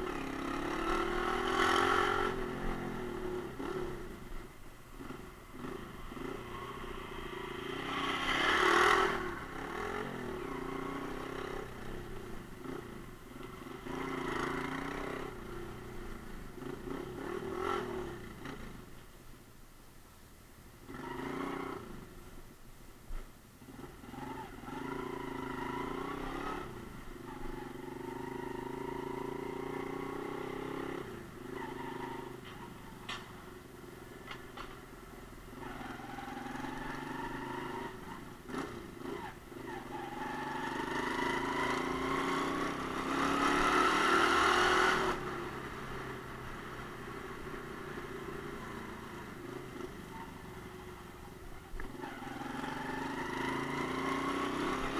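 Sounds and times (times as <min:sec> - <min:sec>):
motorcycle engine accelerating: 0:00.0 - 0:18.8, 0:23.6 - 0:34.8, 0:35.5 - 0:54.9.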